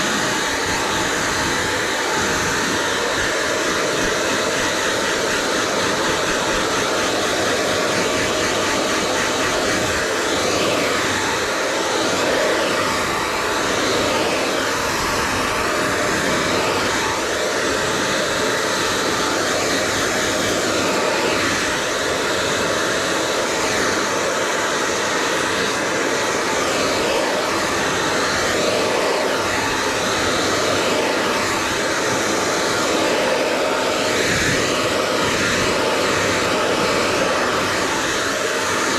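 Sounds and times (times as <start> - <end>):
hair brushing: 0.0 - 38.9
hair dryer blowing: 0.0 - 38.9.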